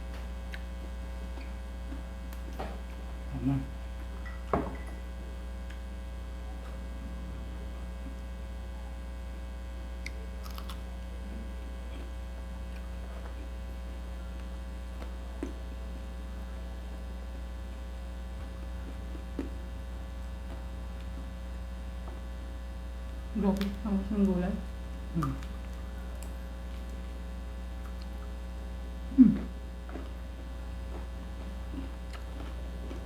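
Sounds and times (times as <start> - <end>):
low electrical mains hum: 0.0 - 33.0.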